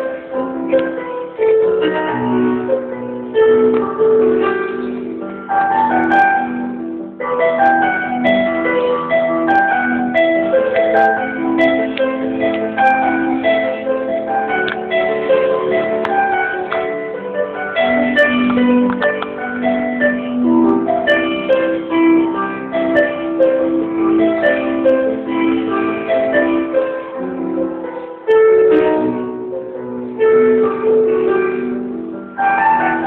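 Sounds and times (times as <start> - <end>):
electronic keyboard playing: 0.0 - 33.0.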